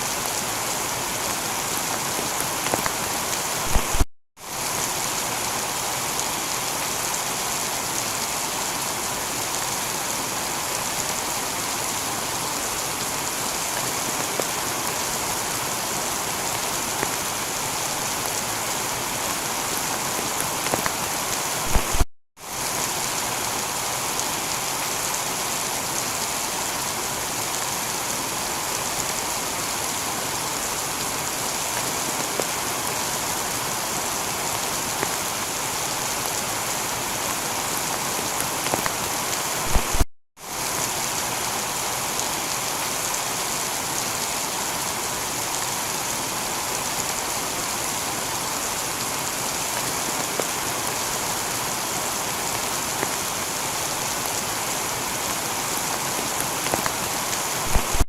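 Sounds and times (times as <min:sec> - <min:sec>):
heavy rain on a tiled roof: 0:00.0 - 0:58.0.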